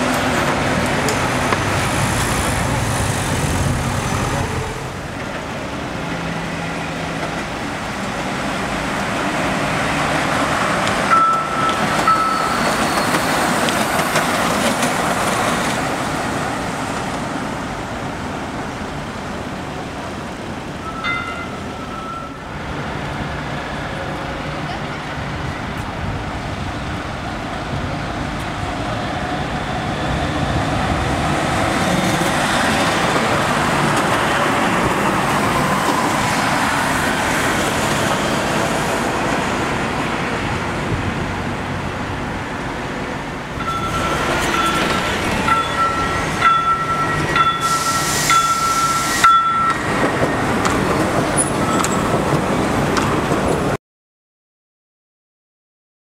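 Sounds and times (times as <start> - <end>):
road traffic: 0.0 - 53.8
tram tyres and motors rumbling: 0.0 - 53.8.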